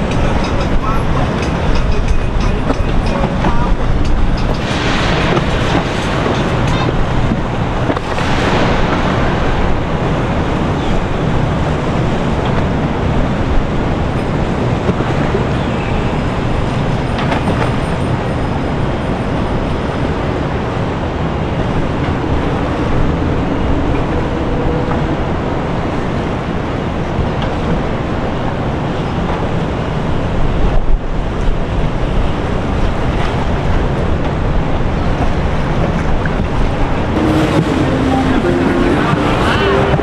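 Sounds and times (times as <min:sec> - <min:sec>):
wind buffeting microphone: 0:00.0 - 0:37.7
motorboat engine and water rush: 0:00.0 - 0:40.0.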